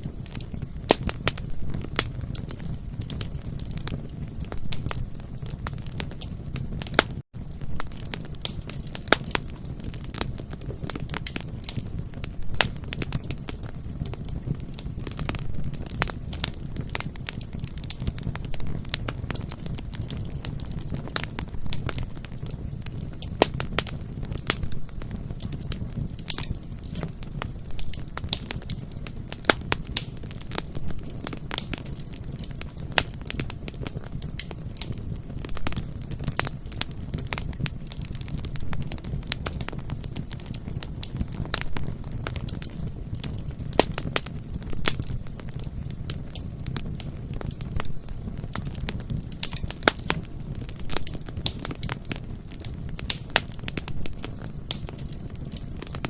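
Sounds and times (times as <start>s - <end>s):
burning wood popping: 0.0s - 56.0s
low rush of flames: 0.0s - 56.0s.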